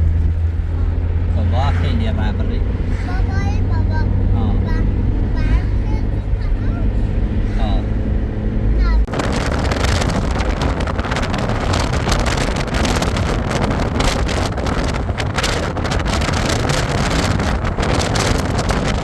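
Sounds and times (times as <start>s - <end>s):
motorboat engine rumbling: 0.0s - 19.0s
wind buffeting microphone: 0.0s - 19.0s.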